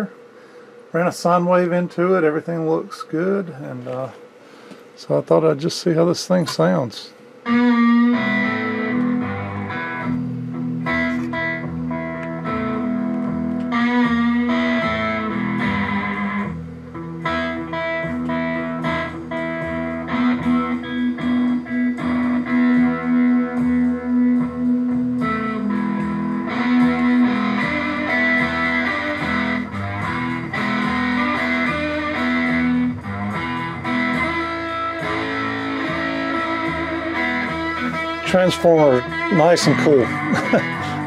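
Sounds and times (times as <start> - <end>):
guitar music through amplifier: 0.0 - 41.0.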